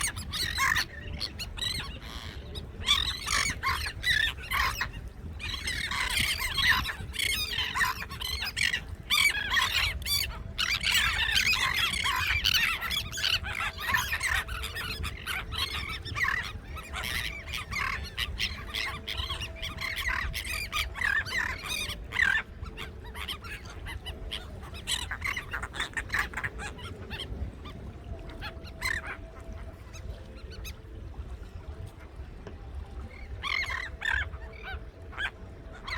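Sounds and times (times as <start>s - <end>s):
flock of birds squawking: 0.0s - 32.2s, 33.0s - 35.9s.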